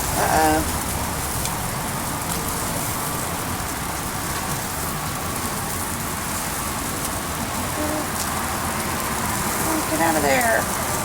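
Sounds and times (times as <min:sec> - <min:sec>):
chicken wings sizzling on a grill: 0:00.0 - 0:11.0
fat crackling as it flares: 0:00.0 - 0:11.0.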